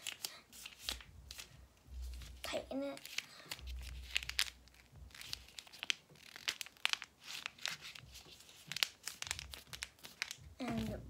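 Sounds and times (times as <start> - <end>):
paper crinkling and crackling: 0.0 - 11.0.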